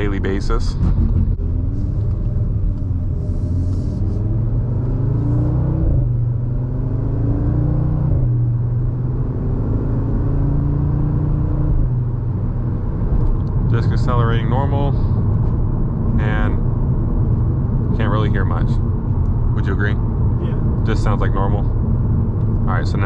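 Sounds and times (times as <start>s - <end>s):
car engine accelerating: 0.0s - 23.0s
low engine drone: 0.0s - 23.0s.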